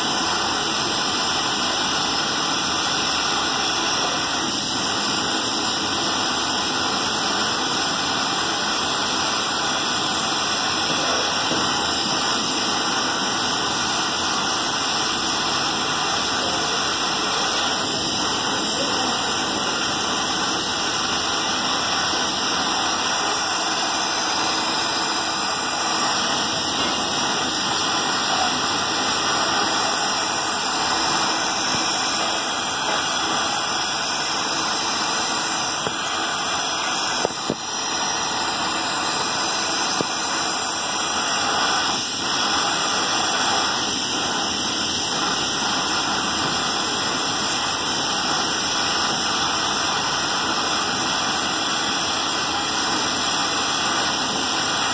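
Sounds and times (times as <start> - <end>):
welding torch flame hissing: 0.0 - 54.9.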